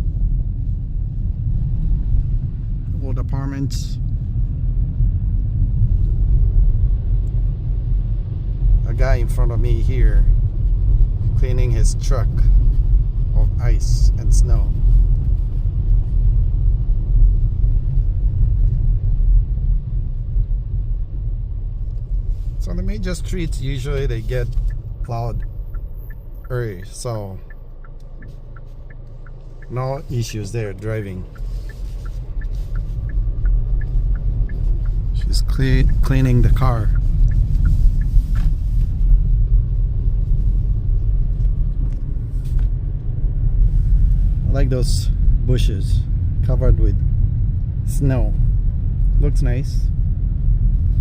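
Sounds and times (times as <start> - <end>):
tyres on road: 0.0 - 49.1
car driving heard from inside: 0.0 - 51.0.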